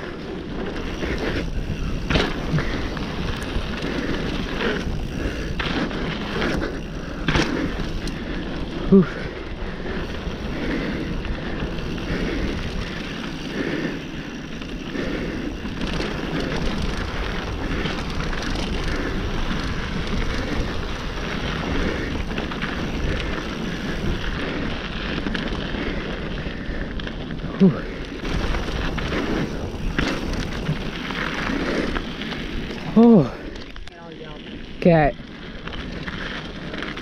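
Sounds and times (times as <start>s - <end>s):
bike tyres on dirt and stones: 0.0s - 37.0s.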